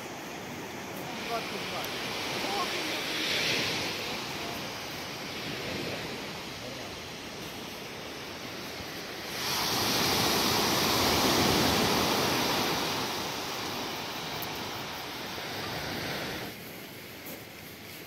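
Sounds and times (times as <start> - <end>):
waves washing on pebble beach: 0.0 - 18.0.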